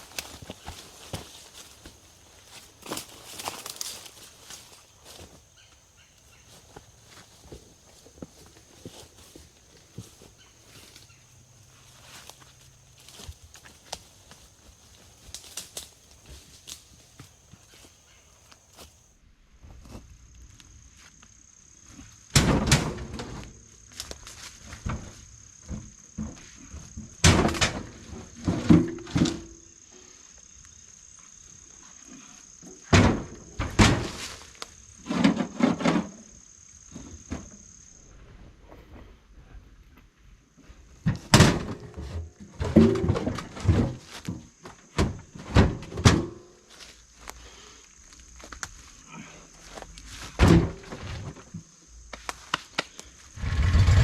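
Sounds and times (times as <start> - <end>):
high insect trill: 0.0 - 19.2, 19.9 - 22.4, 23.0 - 38.6, 40.4 - 54.0.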